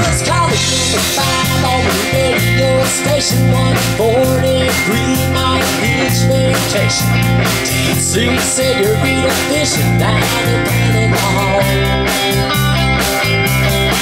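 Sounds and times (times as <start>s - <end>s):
bending guitar lead line: 0.0s - 14.0s
live country-rock band: 0.0s - 14.0s.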